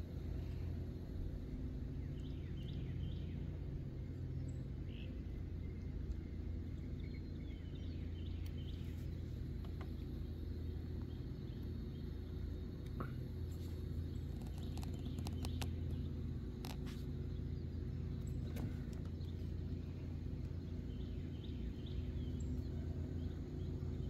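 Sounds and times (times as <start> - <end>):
steady low rumble: 0.0 - 24.0
birds chirping: 0.1 - 24.0.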